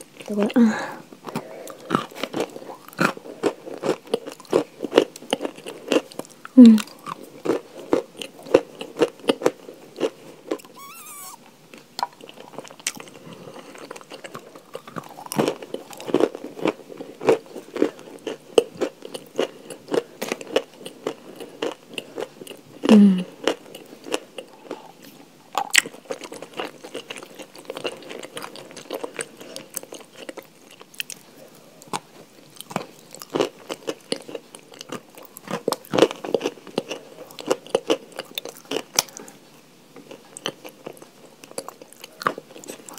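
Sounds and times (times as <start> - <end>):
chewing and crunching chalk: 1.2 - 42.9.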